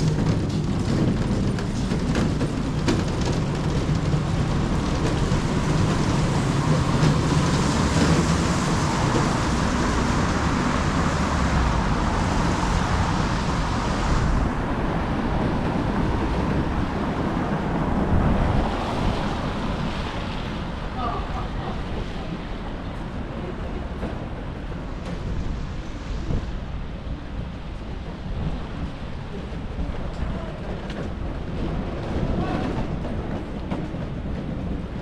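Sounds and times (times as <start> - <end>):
low rumble: 0.0 - 30.4
rain: 0.0 - 35.0
storm wind: 0.0 - 35.0.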